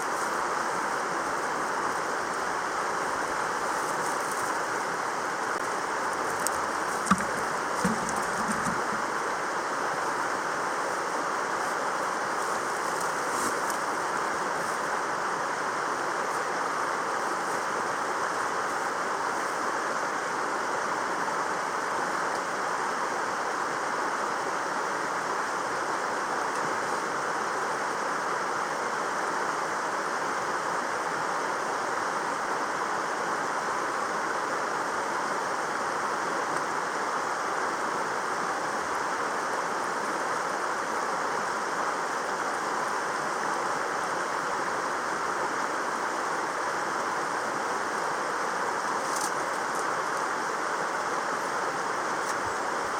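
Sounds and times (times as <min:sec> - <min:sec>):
stream flowing: 0:00.0 - 0:52.9.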